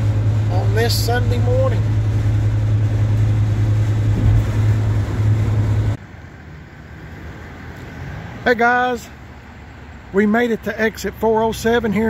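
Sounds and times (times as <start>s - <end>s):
vehicle driving at highway speed: 0.0s - 12.0s.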